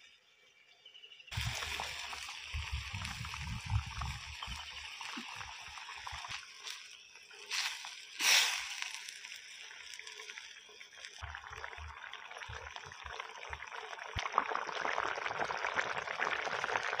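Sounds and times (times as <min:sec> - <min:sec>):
curry bubbling in a pot: 0:01.3 - 0:17.0.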